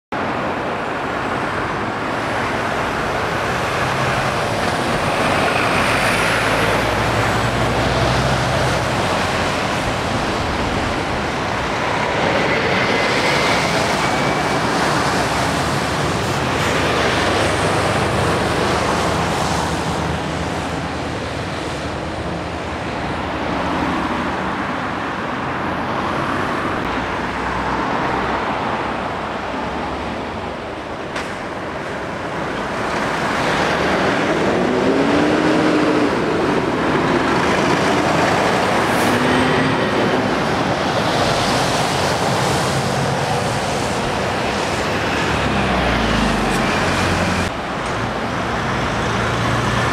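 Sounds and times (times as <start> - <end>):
vehicles passing: 0.1 - 49.9
lorry passing close by: 1.0 - 30.6, 31.3 - 49.9.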